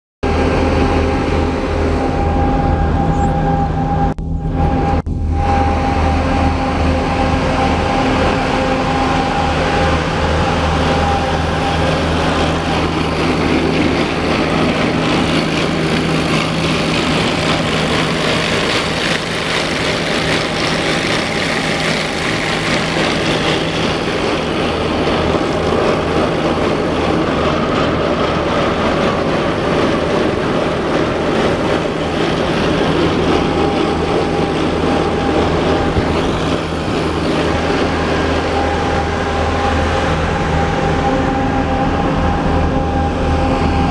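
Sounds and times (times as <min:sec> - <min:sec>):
screening plant running: 0:00.3 - 0:43.9.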